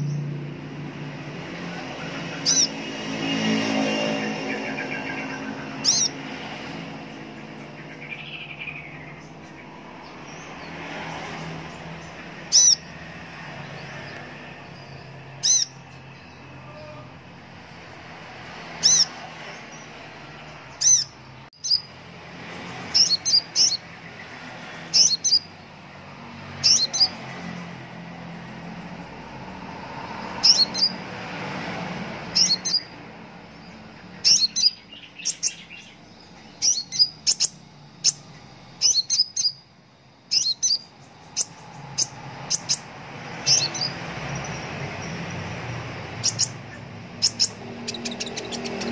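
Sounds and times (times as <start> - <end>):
bird chirping: 0.0 - 48.9.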